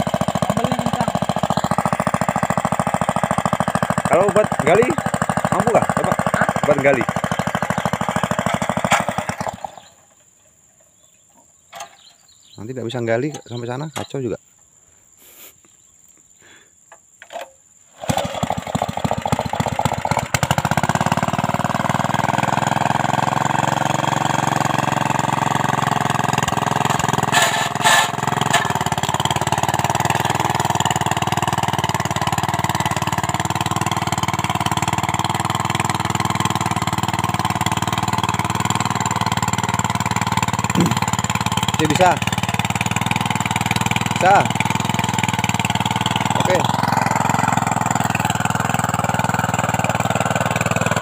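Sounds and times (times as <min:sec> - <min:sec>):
small petrol engine running: 0:00.0 - 0:10.3, 0:17.9 - 0:51.0.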